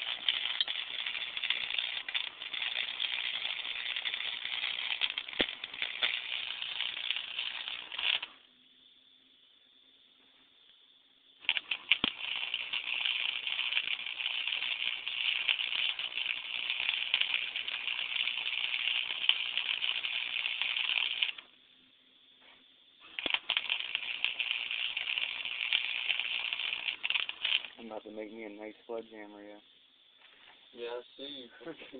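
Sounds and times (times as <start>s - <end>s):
welder arc crackling: 0.0s - 8.5s, 11.4s - 21.6s, 22.4s - 29.6s.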